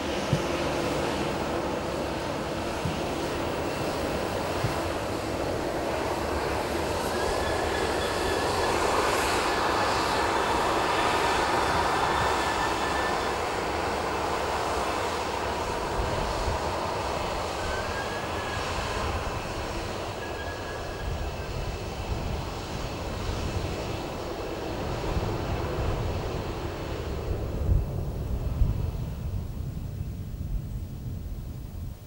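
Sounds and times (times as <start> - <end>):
jet engines rushing with whine: 0.0 - 32.0.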